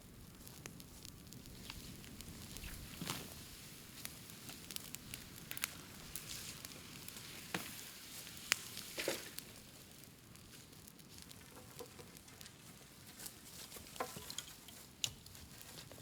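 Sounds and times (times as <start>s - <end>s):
bamboo burning with crackles and pops: 0.0s - 16.0s.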